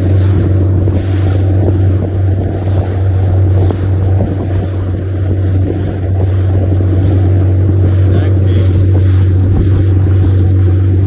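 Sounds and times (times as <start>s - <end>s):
boat motor droning: 0.0s - 11.0s
rushing water: 0.0s - 11.0s
wind buffeting microphone: 0.0s - 11.0s.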